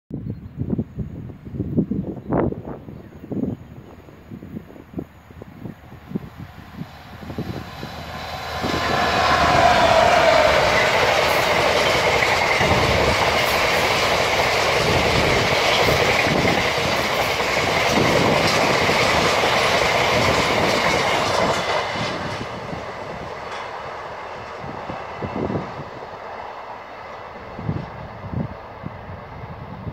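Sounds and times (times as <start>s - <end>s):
diesel locomotive engine passing: 5.3s - 29.9s.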